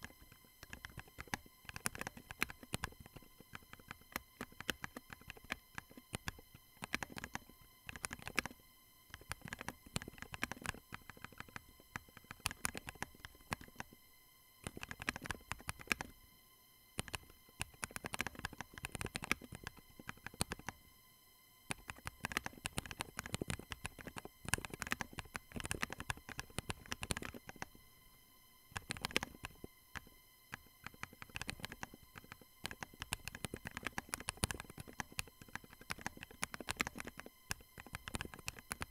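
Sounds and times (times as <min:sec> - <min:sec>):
fast typing on keyboard: 0:00.0 - 0:13.9, 0:14.6 - 0:16.1, 0:17.0 - 0:20.8, 0:21.7 - 0:27.7, 0:28.7 - 0:38.9.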